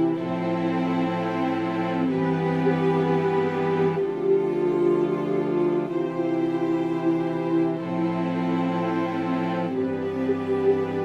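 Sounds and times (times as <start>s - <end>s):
gentle string-like background music: 0.0s - 11.0s.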